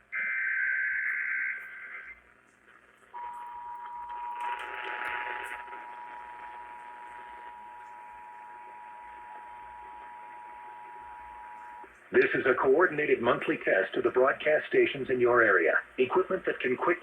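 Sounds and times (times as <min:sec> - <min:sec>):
radio noise hiss: 0:00.0 - 0:03.3, 0:03.9 - 0:17.0.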